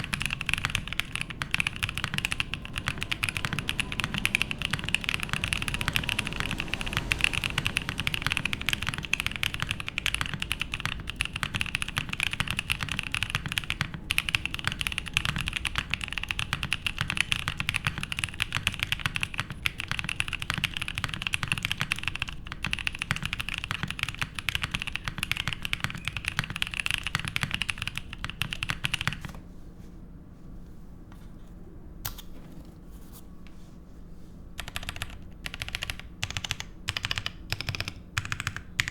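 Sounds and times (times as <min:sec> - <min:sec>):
mechanical keyboard typing: 0:00.0 - 0:29.4, 0:34.6 - 0:38.9.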